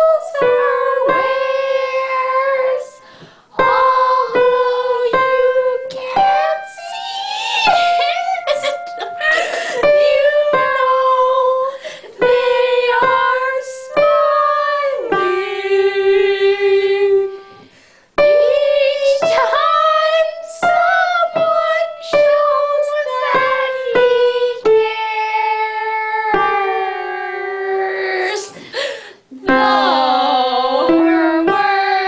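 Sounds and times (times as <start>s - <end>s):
woman singing slow melody: 0.0s - 17.6s, 18.2s - 28.6s, 29.3s - 32.0s
piano accompaniment: 0.0s - 32.0s.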